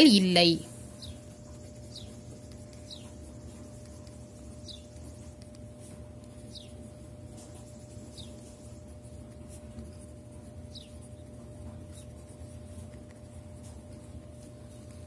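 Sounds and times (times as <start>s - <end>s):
steady low hum: 0.0s - 15.0s
pen scratching on paper: 1.0s - 6.7s, 7.4s - 14.1s.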